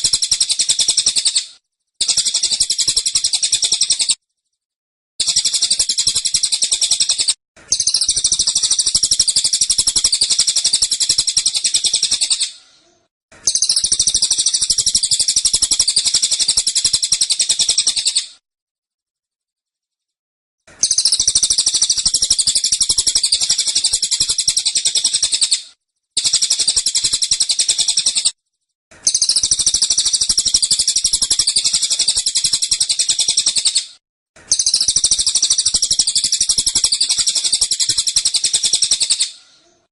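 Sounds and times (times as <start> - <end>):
bird high-pitched chattering: 0.0 - 4.2, 5.2 - 12.6, 13.4 - 18.3, 20.8 - 25.6, 26.2 - 28.4, 29.0 - 33.9, 34.5 - 39.4.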